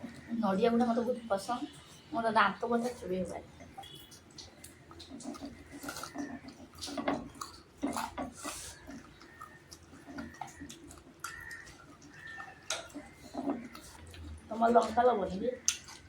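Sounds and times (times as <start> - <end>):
chewing food: 0.0 - 16.0.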